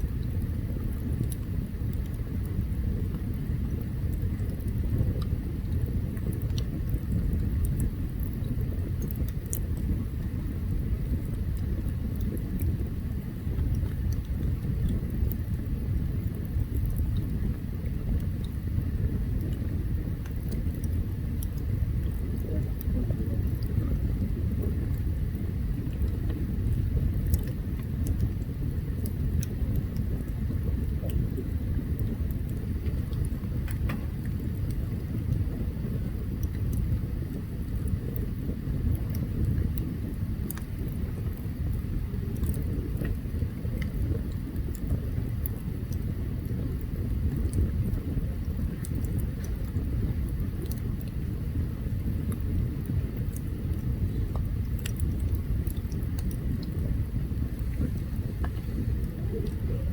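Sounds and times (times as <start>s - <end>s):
burning wood crackling and popping: 0.0s - 59.9s
campfire rumble: 0.0s - 59.9s.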